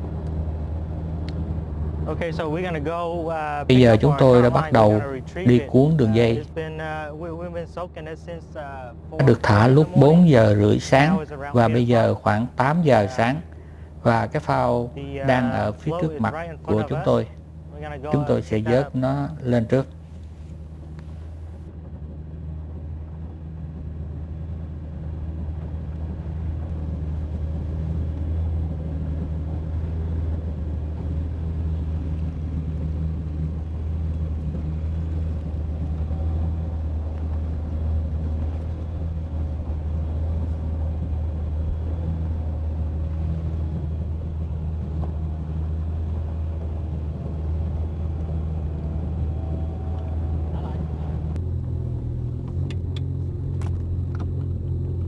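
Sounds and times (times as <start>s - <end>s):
motorboat engine drone: 0.0s - 55.0s.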